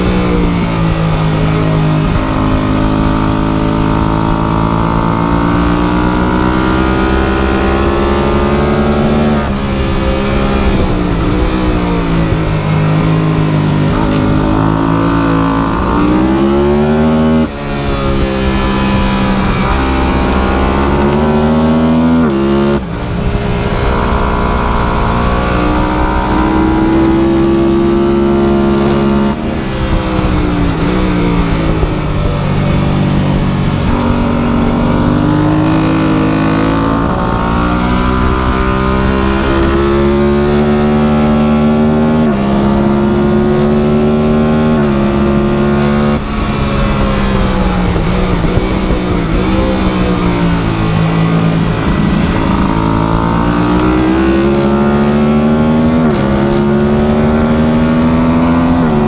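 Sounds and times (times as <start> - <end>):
engine running hard: 0.0 - 59.0.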